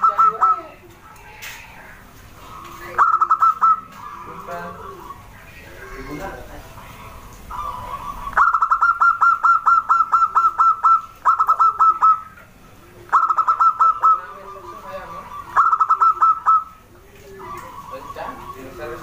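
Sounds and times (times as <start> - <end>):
dove calling in clipped notes: 0.0 - 19.0.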